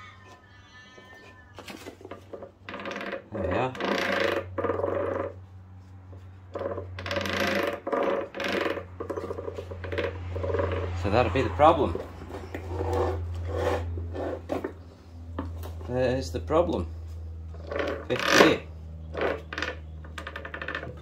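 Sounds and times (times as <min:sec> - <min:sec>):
steady low hum: 0:02.0 - 0:21.0.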